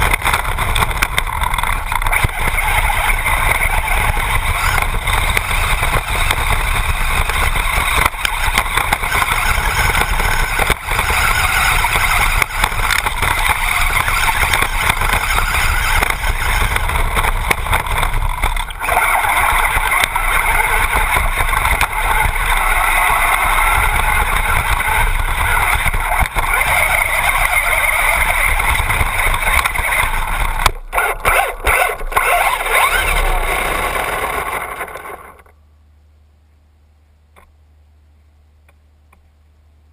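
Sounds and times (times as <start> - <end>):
electric toy car motor: 0.0 - 35.5.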